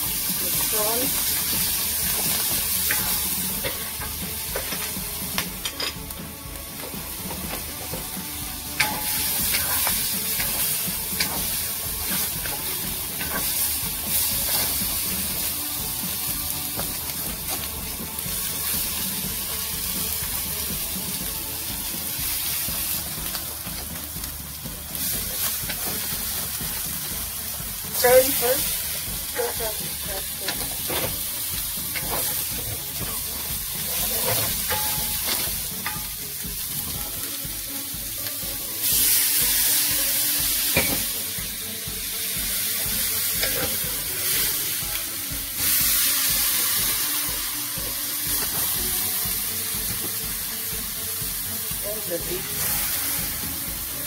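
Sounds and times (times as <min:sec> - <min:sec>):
food sizzling in hot oil: 0:00.0 - 0:54.0
spatula scraping and knocking wok: 0:00.1 - 0:54.0.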